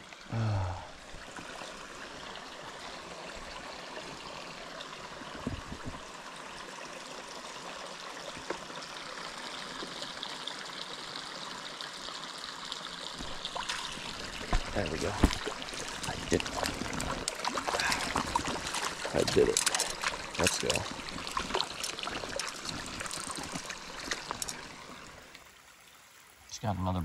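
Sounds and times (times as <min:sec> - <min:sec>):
stream water flowing: 0:00.0 - 0:27.0.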